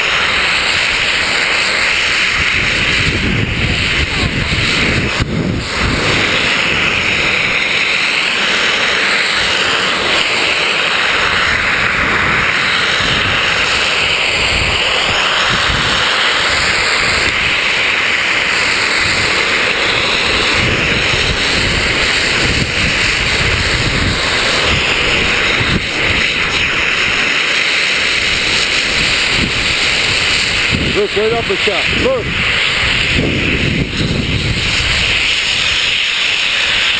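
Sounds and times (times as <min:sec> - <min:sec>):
skis scraping on snow: 0:00.0 - 0:36.9
wind rushing over microphone: 0:00.0 - 0:36.9.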